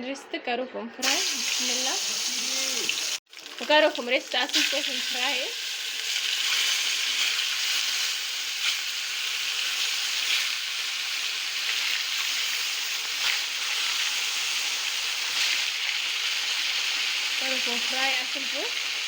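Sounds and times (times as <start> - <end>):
meatballs sizzling in hot oil: 1.0 - 19.0.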